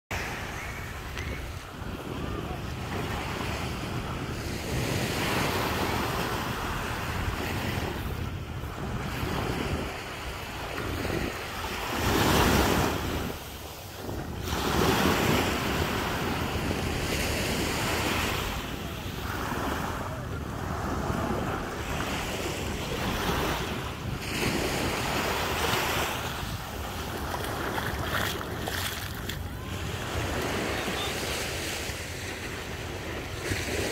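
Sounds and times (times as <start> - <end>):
waves breaking on sandy shore: 0.1 - 33.9
wind buffeting microphone: 0.4 - 30.7.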